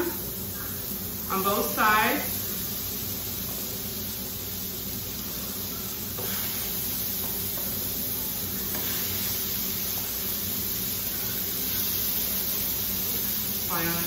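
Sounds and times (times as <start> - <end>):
meat patties sizzling on griddle: 0.0 - 14.0.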